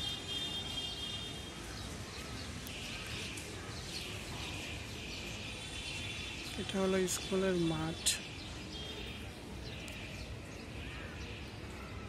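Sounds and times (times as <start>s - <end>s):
birds chirping: 0.0s - 12.0s
low outdoor background noise: 0.0s - 12.0s.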